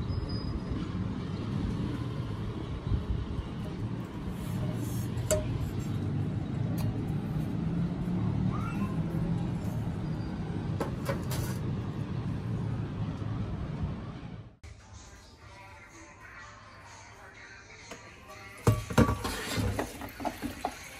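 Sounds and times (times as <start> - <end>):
low rumble of road traffic: 0.0 - 20.9.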